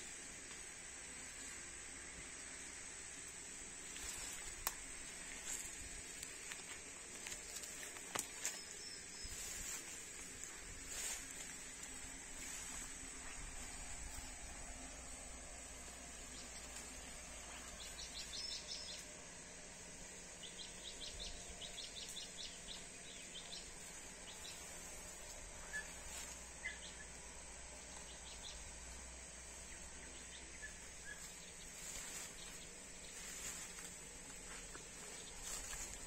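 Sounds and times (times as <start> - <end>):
outdoor hiss: 0.0 - 36.0
small birds chirping: 3.9 - 36.0.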